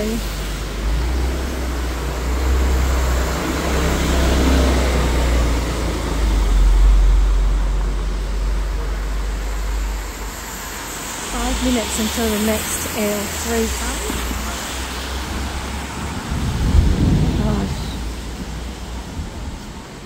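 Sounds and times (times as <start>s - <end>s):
street traffic: 0.0s - 20.0s
thunder rumbling: 0.0s - 20.0s.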